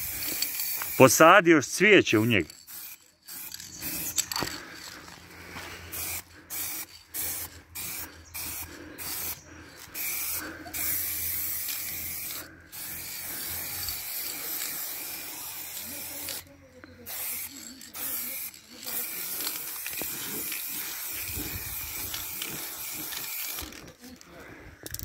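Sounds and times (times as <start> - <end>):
spray paint can hissing: 0.0 - 1.2, 2.2 - 4.6, 5.9 - 24.0.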